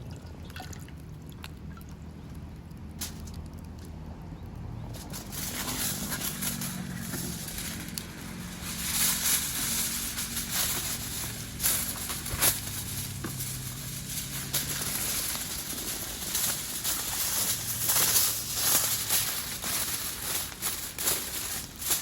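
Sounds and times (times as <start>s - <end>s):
campfire crackling: 0.9s - 22.0s.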